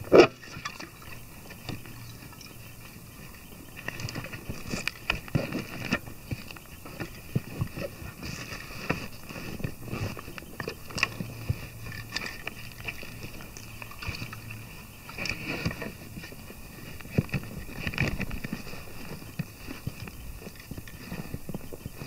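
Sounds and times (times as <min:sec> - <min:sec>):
rustling of packed items: 0:00.0 - 0:22.0.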